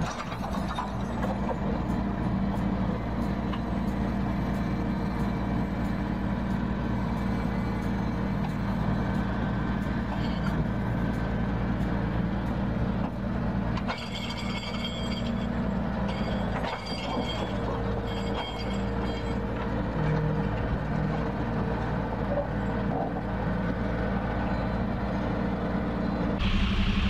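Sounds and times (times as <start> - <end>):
excavator diesel engines running: 0.0 - 27.0.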